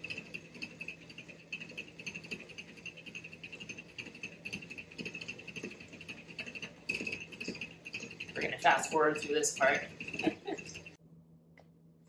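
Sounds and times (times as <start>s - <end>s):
spinning reel ticking: 0.0s - 11.0s.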